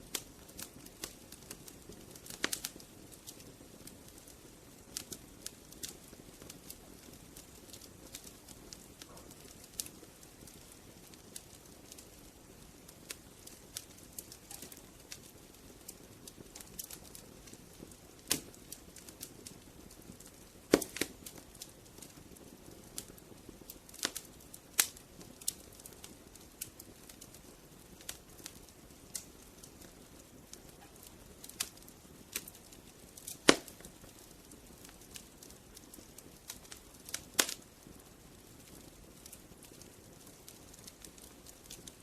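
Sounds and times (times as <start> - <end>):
hiss of burning: 0.0 - 42.0
wood fire crackling: 0.0 - 42.0.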